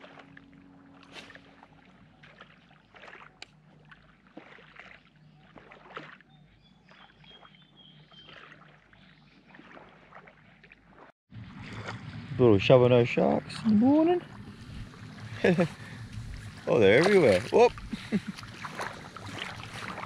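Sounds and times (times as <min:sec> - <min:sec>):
soft ticks and splashes: 0:00.0 - 0:12.2, 0:13.6 - 0:20.0
small ripples lapping on beach: 0:00.0 - 0:20.0.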